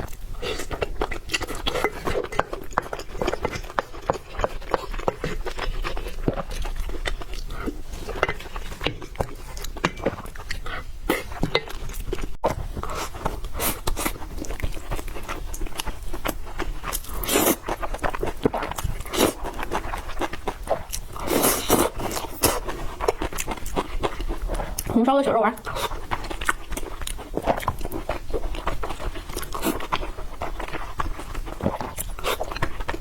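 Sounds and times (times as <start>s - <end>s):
person chewing and crunching: 0.0s - 33.0s.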